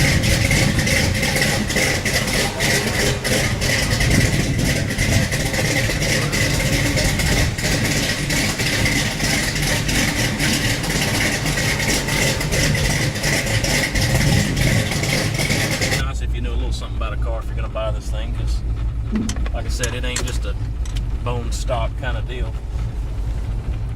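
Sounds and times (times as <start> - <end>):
truck engine deep rumble: 0.0 - 23.9.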